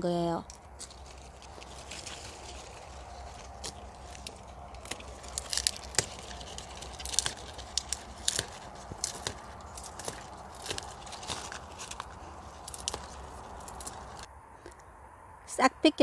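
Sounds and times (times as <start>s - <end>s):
rustling foliage: 0.0s - 14.7s
leaves snapping and tearing: 0.4s - 14.3s.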